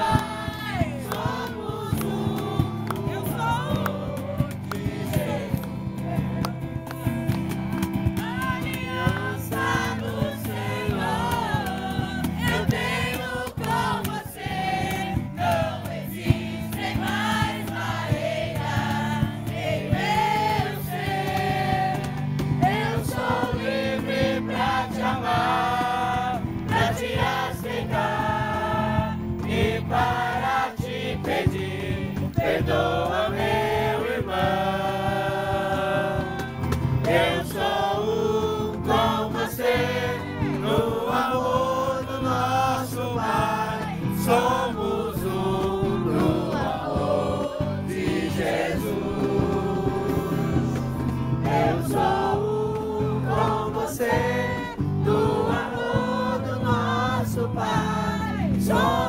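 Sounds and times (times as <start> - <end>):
group of voices singing: 0.0 - 59.0
instrumental accompaniment: 0.0 - 59.0.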